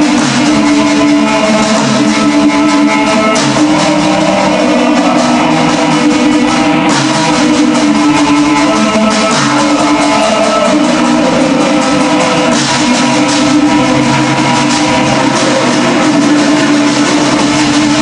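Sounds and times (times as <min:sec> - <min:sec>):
black metal band playing: 0:00.0 - 0:18.0.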